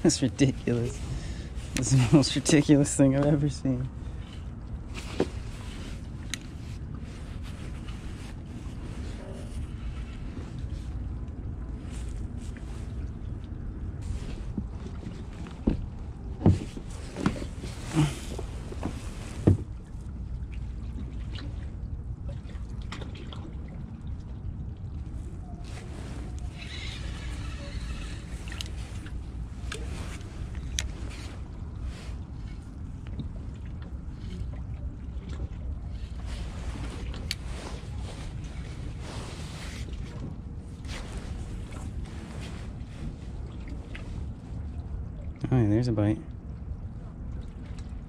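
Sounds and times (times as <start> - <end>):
water sloshing against hull: 0.0 - 48.0
wind rumble on microphone: 0.0 - 48.0.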